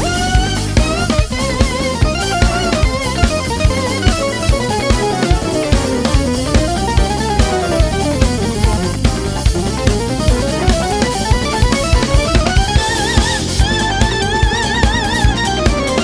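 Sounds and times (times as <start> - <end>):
drum kit groove: 0.0 - 16.0
melodic line with vibrato: 0.0 - 16.0.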